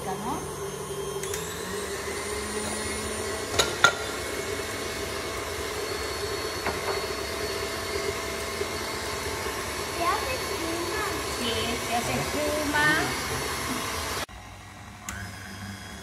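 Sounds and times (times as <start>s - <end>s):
stand mixer whisking: 0.0s - 16.0s.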